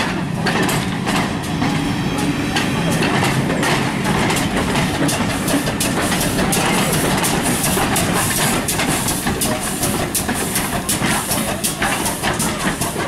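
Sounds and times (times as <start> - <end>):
train rumble: 0.0 - 13.0
train wheels clattering over rails: 0.0 - 13.0.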